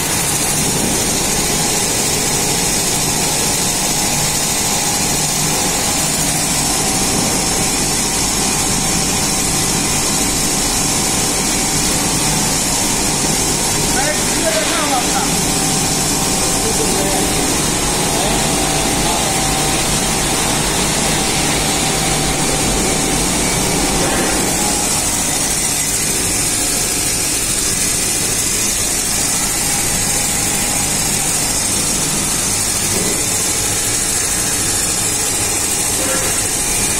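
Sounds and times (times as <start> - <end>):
coolant splashing: 0.0 - 36.9
grinding machine motor humming: 0.0 - 36.9.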